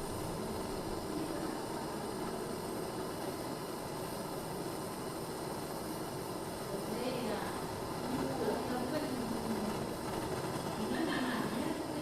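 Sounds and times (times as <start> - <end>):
brazing torch flame hissing: 0.0 - 12.0.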